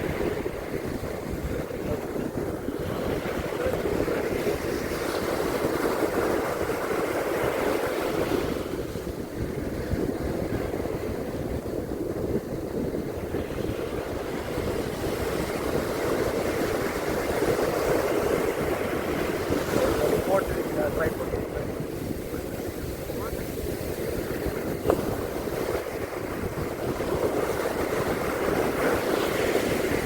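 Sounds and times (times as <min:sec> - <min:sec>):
surf washing onto beach: 0:00.0 - 0:30.0
wind rumbling on microphone: 0:00.0 - 0:30.0.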